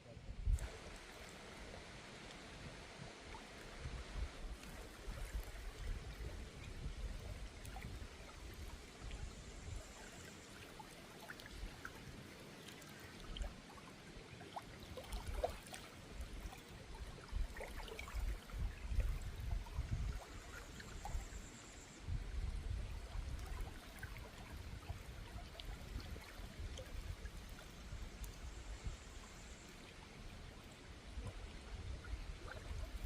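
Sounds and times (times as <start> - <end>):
stream trickling over rocks: 0.5 - 33.0.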